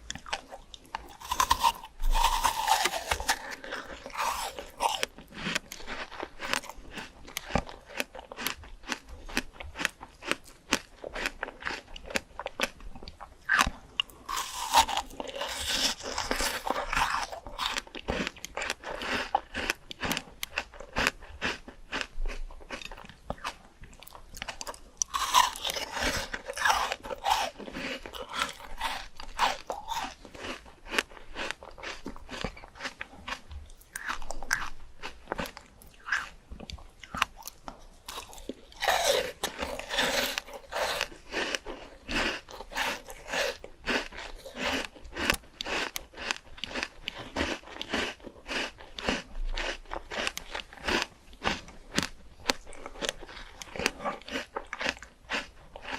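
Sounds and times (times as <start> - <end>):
person crunching fruit: 0.0 - 55.9
wet chewing clicks: 0.0 - 55.9.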